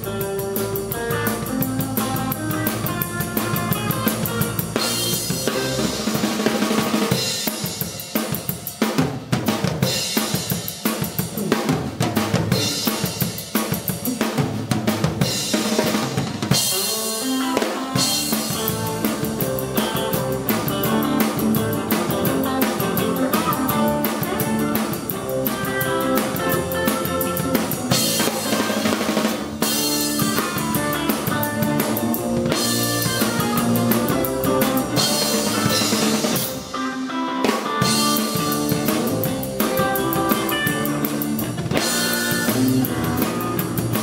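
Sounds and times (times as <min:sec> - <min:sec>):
drum kit hits: 0:00.0 - 0:36.8
surf rock band playing: 0:00.0 - 0:44.0.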